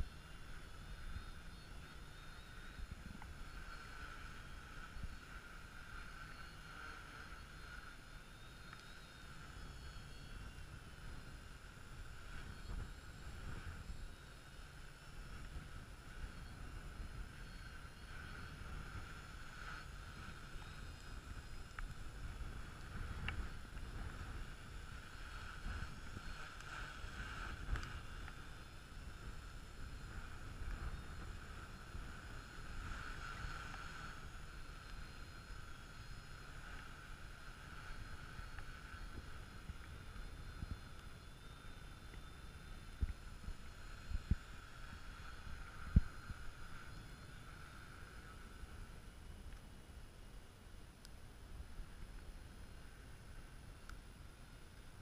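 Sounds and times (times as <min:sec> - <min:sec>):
drone propellers humming: 0:00.0 - 0:49.5
wind rumble on microphone: 0:00.0 - 0:55.0.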